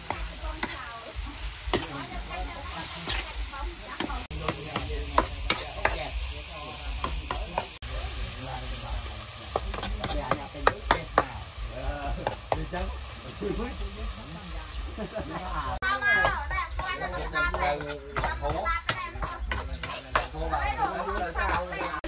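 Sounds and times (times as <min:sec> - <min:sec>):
food sizzling: 0:00.0 - 0:22.0.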